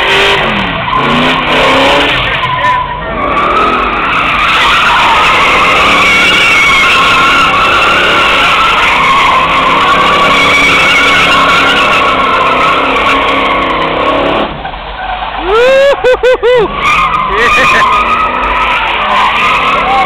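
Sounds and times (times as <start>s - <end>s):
car engine revving high: 0.0s - 15.3s, 16.5s - 20.0s
tires screeching: 0.0s - 20.0s.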